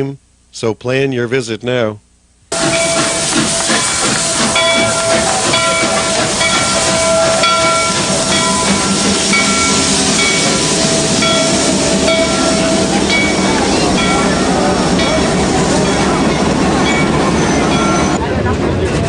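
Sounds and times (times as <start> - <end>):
loud hiss of steam: 2.5 - 18.2.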